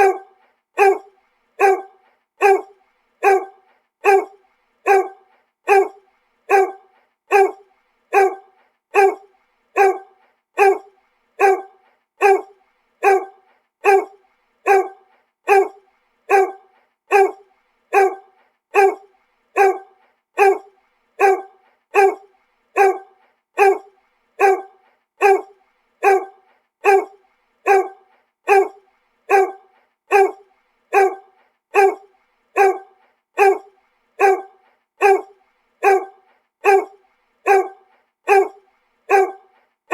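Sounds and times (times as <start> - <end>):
dog barking: 0.0 - 39.6.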